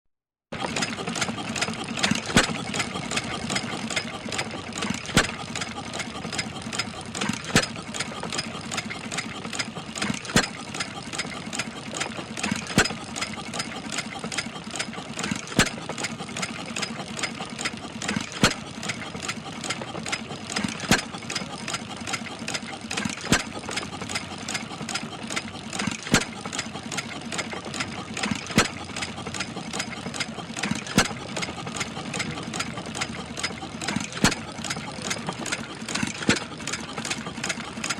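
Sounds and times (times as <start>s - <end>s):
small water pump engine running: 0.5s - 37.9s.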